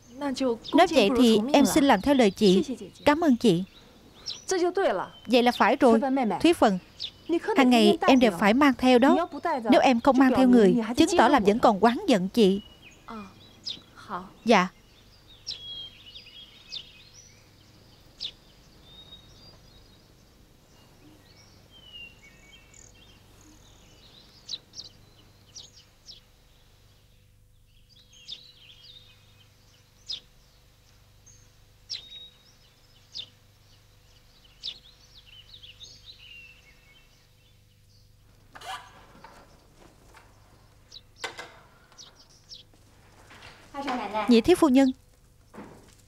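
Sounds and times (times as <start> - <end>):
faint birds chirping: 0.0 - 46.0
low background hum: 0.0 - 46.0.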